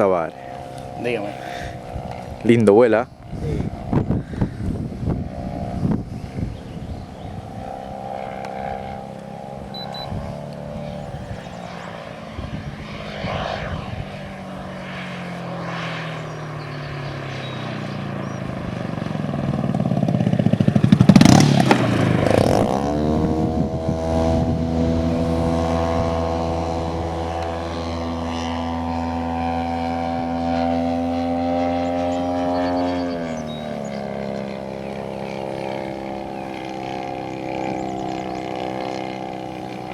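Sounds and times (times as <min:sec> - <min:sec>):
model airplane engine and propeller: 0:00.0 - 0:39.9.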